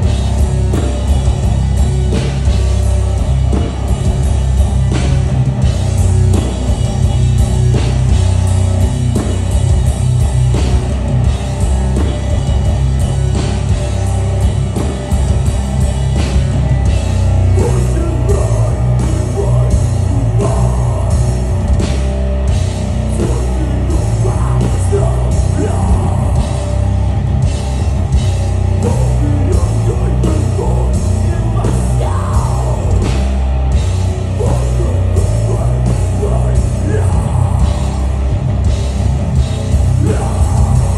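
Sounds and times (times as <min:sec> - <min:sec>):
distorted electric guitars: 0:00.0 - 0:40.9
pounding drums: 0:00.0 - 0:40.9.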